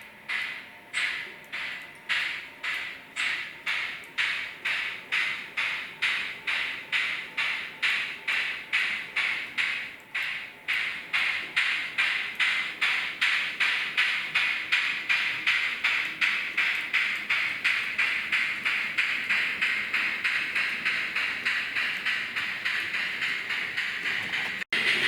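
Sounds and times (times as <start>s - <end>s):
model steam locomotive chuffing: 0.3s - 25.0s.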